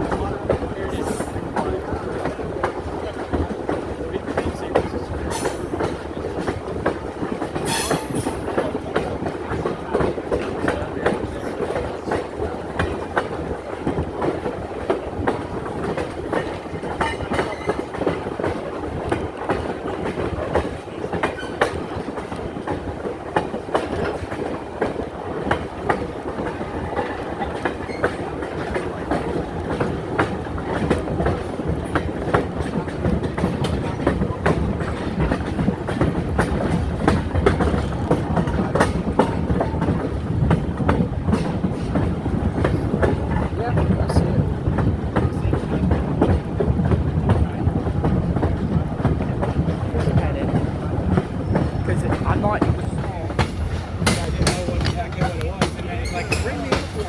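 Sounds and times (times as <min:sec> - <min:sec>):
train wheels rumbling on track: 0:00.0 - 0:57.0
wheels clacking over rail joints: 0:00.0 - 0:57.0.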